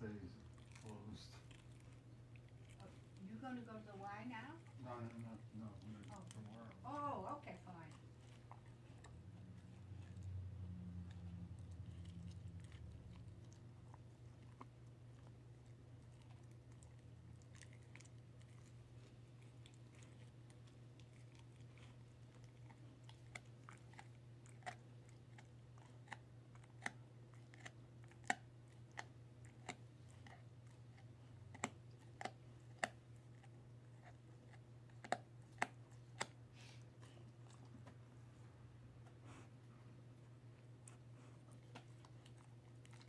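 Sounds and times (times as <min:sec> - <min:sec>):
dog chewing hard treat: 0:00.1 - 0:03.3, 0:04.6 - 0:38.0.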